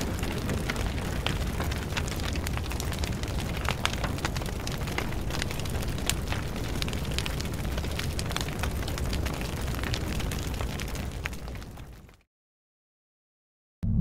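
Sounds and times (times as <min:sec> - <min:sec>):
fire crackles and pops: 0:00.0 - 0:12.2
low roar of flames: 0:00.0 - 0:12.2.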